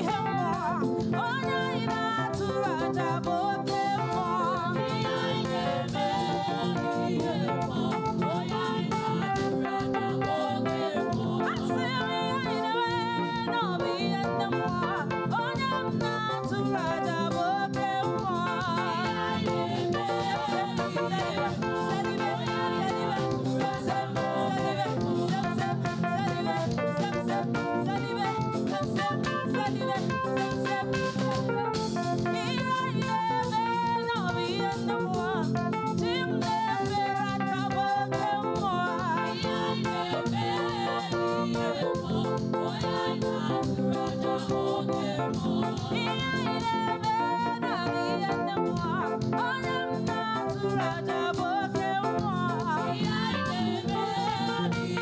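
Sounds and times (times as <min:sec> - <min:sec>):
band with drums: 0:00.0 - 0:55.0
voices singing: 0:00.0 - 0:55.0.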